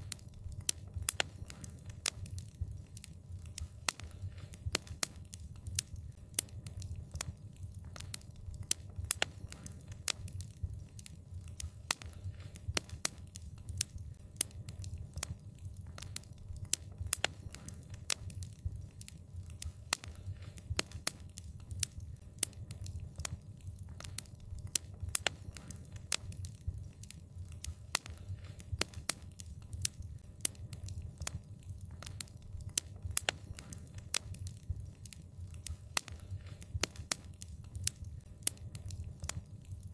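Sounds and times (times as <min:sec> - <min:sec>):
low rumble of burning: 0:00.0 - 0:39.9
wood fire popping and snapping: 0:00.0 - 0:39.9.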